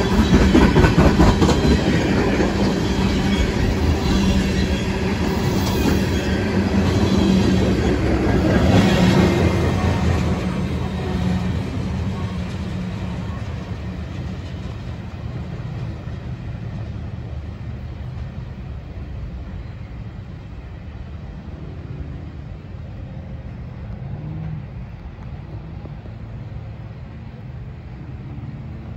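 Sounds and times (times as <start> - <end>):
train wheels rumbling on track: 0.0 - 28.9.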